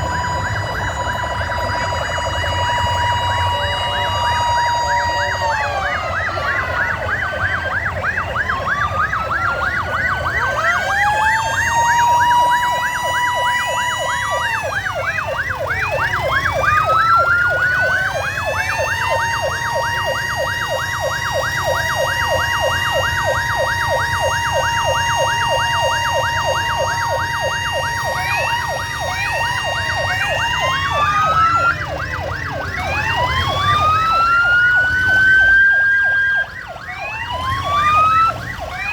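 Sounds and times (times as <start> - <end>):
police sirens wailing: 0.0 - 38.9
siren fast yelp: 0.0 - 38.9.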